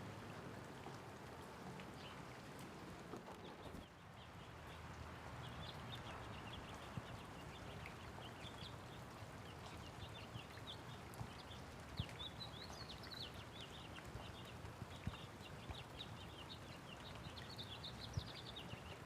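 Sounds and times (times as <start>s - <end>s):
light rain falling: 0.0s - 19.0s
water drips: 0.0s - 19.0s
small birds chirping: 3.4s - 19.0s.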